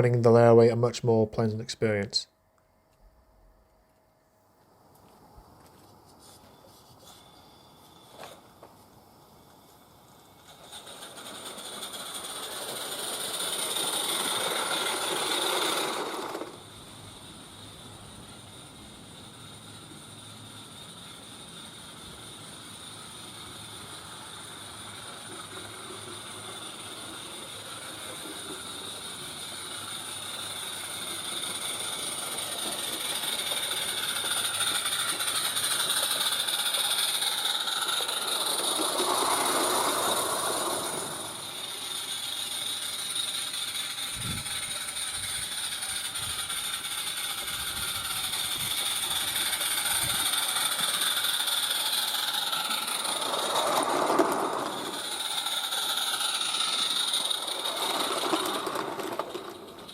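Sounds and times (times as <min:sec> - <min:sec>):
model steam locomotive running: 0:05.0 - 0:59.9
steam hissing: 0:06.3 - 0:59.9.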